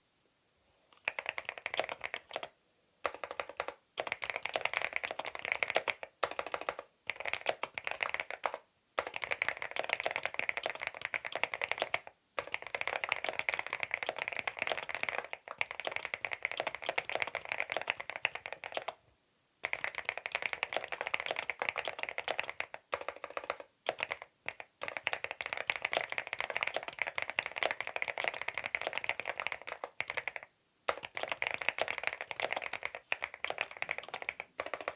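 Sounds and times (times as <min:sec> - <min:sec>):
mechanical keyboard typing: 0:01.0 - 0:19.0, 0:19.6 - 0:34.9.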